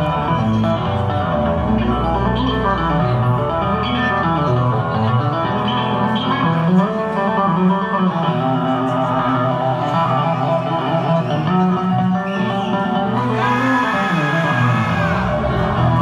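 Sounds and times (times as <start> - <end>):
electric bass solo: 0.0 - 16.0.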